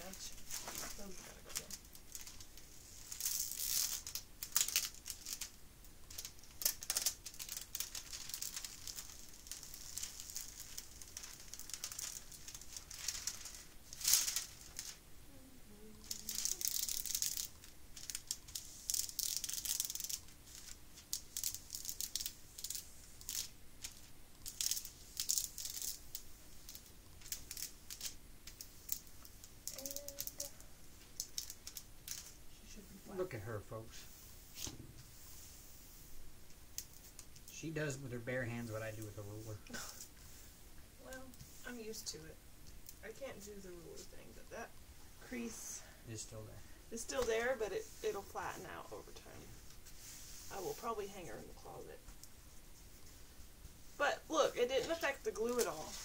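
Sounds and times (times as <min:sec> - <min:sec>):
hands rubbing crinkling plastic film: 0:00.0 - 0:15.0, 0:16.0 - 0:44.6, 0:46.9 - 0:56.0.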